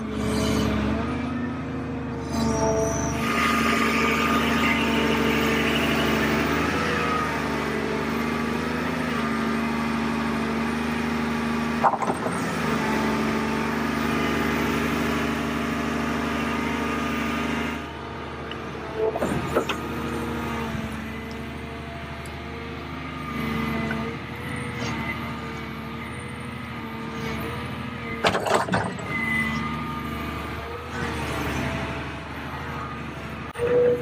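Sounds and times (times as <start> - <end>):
excavator engine and hydraulics: 0.0 - 34.0.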